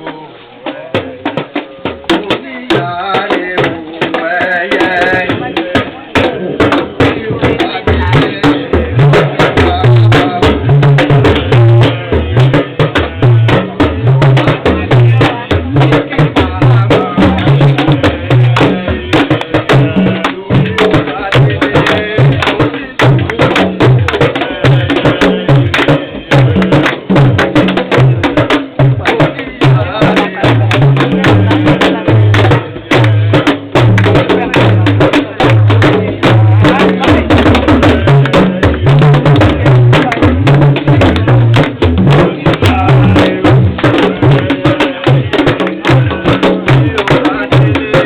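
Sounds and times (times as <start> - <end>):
deep drum strokes: 0.0 - 48.0.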